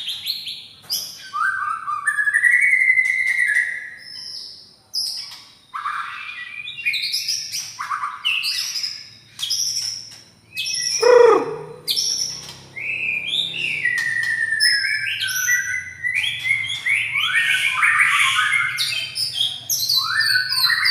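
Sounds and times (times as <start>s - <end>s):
songbird whistling and trilling: 0.1s - 4.6s, 5.6s - 20.9s.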